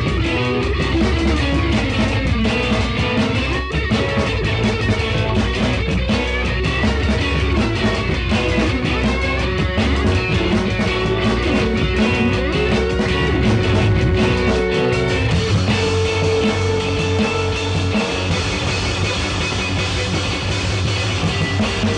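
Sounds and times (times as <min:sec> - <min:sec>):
rock music: 0:00.0 - 0:21.9.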